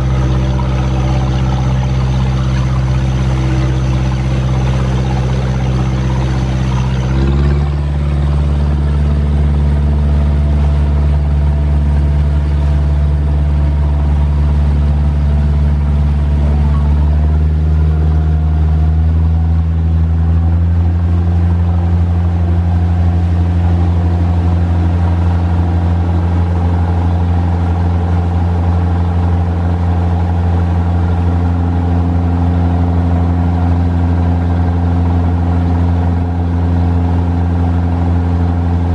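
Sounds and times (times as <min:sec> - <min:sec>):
boat diesel engine running: 0:00.0 - 0:38.9.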